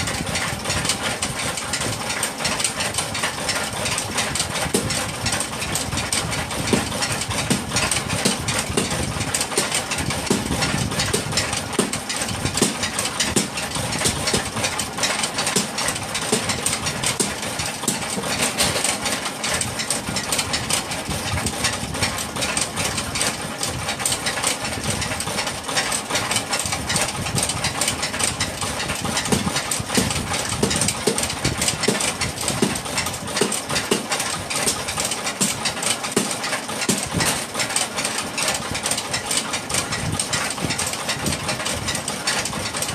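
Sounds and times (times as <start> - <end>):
dense clatter of clicks: 0.0 - 42.9
workshop machinery running: 0.0 - 42.9.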